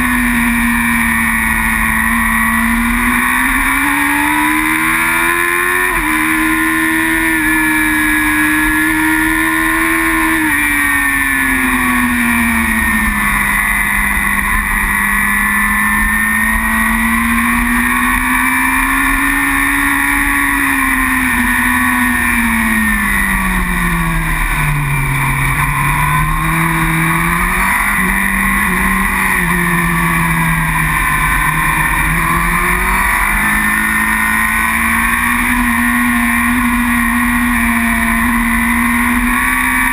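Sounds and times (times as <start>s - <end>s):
superbike engine running hard: 0.0s - 39.9s.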